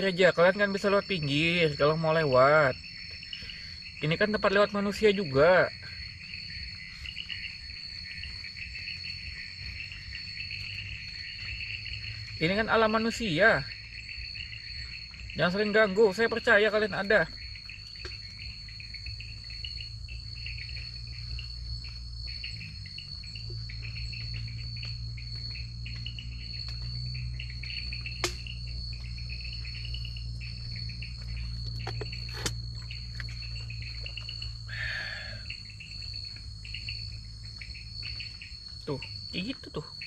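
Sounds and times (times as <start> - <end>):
low steady hum: 0.0 - 39.3
crickets chirping: 0.0 - 40.0
high-pitched insect drone: 0.0 - 40.0.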